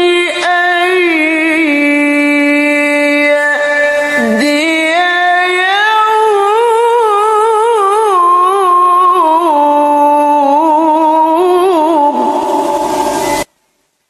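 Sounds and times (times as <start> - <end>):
man chanting melodically: 0.0 - 13.2.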